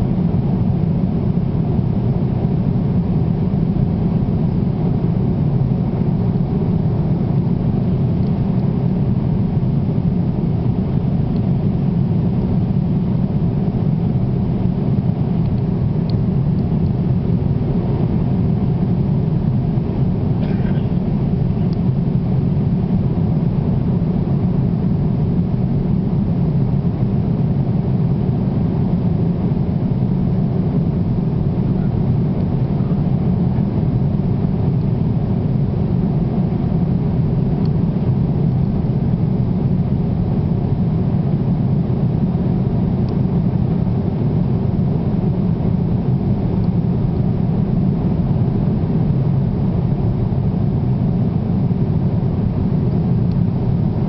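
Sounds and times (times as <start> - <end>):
airplane drone: 0.0 - 54.0.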